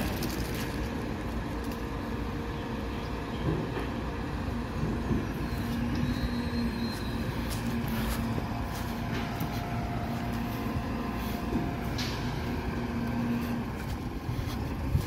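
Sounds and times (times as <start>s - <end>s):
diesel truck engine rumbling: 0.0s - 15.0s
steady hum: 0.0s - 15.0s.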